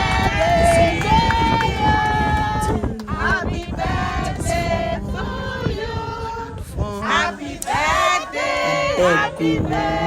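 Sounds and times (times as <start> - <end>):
choir singing: 0.0 - 10.0.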